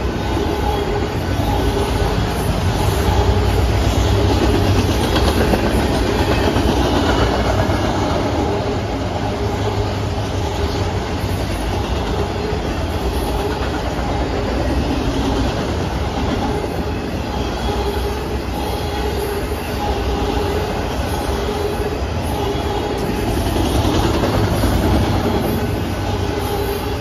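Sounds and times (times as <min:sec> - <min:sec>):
steel train wheels rumbling on rails: 0:00.0 - 0:27.0.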